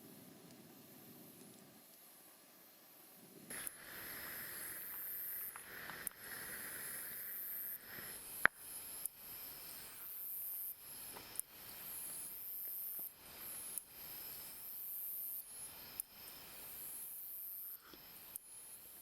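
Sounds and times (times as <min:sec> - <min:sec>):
campfire hissing and popping: 0:00.0 - 0:19.0.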